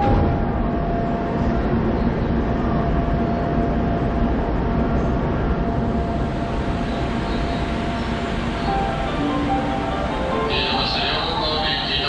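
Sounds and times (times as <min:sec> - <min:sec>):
subway train equipment hum: 0:00.0 - 0:12.0.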